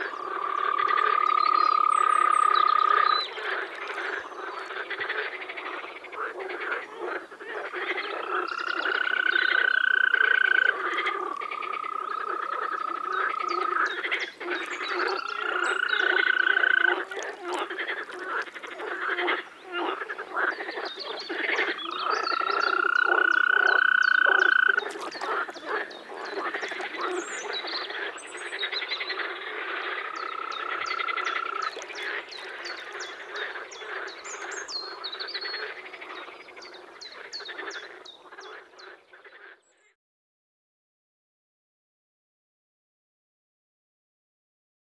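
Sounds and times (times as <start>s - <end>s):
chorus of clicking frog calls: 0.0s - 39.6s
toads trilling: 0.0s - 39.6s.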